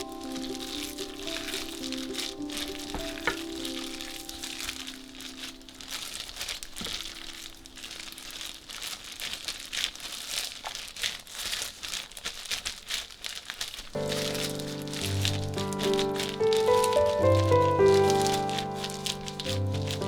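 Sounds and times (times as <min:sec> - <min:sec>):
crinkling and crackling: 0:00.0 - 0:20.0.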